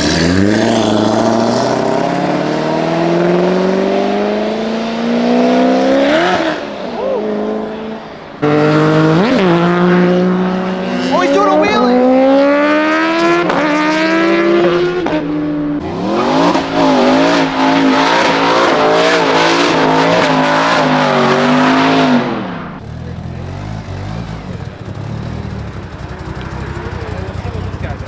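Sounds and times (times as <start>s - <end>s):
car engine revving hard: 0.0s - 28.0s.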